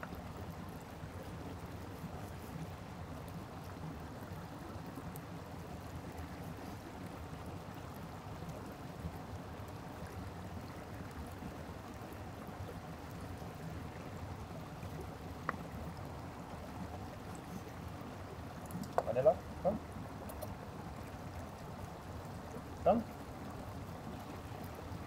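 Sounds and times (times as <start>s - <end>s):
stream flowing over rocks: 0.0s - 25.0s.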